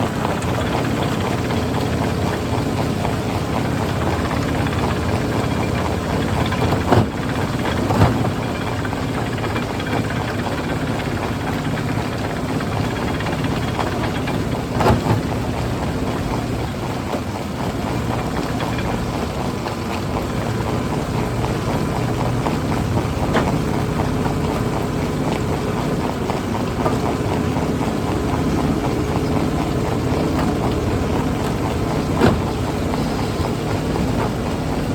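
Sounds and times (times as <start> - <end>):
heavy machine engine running: 0.0 - 34.9.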